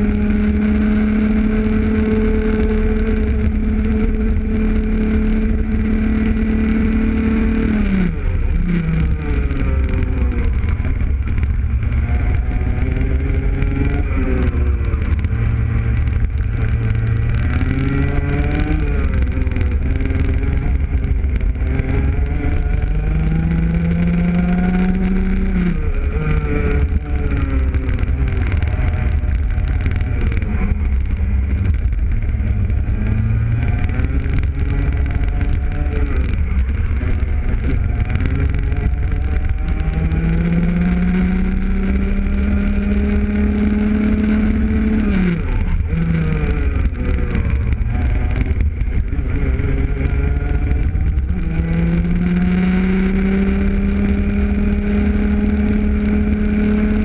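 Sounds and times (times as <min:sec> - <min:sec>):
kart two-stroke engine racing: 0:00.0 - 0:57.0.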